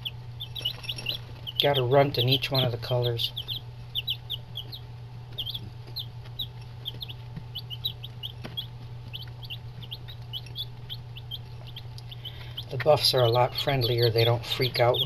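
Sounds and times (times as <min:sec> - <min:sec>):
chicks peeping: 0:00.0 - 0:15.0
low hum: 0:00.0 - 0:15.0.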